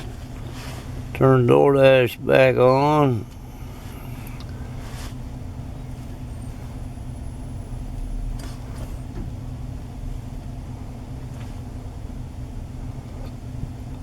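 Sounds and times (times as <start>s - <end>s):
car engine rumble inside cabin: 0.0s - 14.0s.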